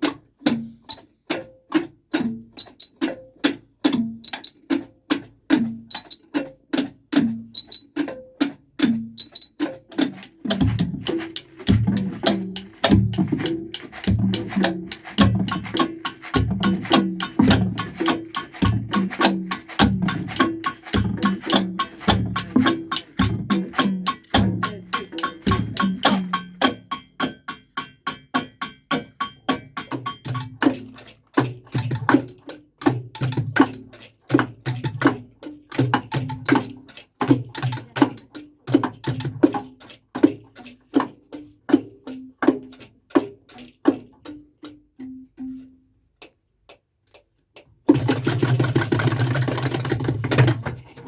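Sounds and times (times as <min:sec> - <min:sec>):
fast percussion taps: 0:00.0 - 0:51.0.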